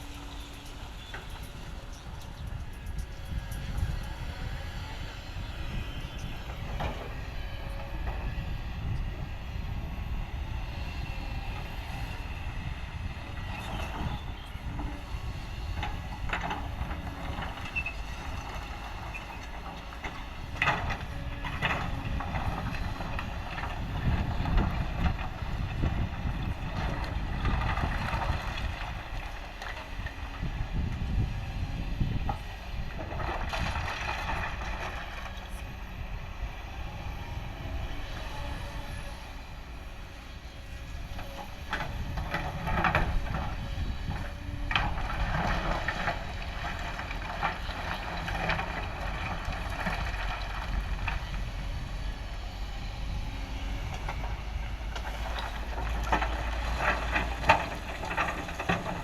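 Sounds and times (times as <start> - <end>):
diesel machinery rumbling: 0.0 - 59.0.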